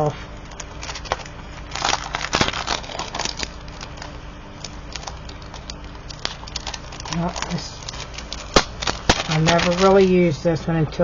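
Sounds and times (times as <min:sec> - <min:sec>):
packaging rustling and crinkling: 0:00.3 - 0:10.3.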